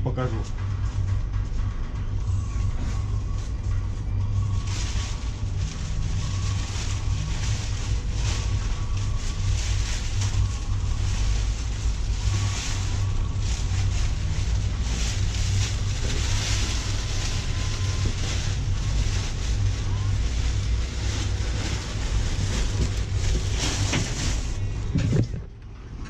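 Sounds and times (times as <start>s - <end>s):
steady low rumble: 0.0s - 26.0s
fabric cover rustling: 2.2s - 25.4s.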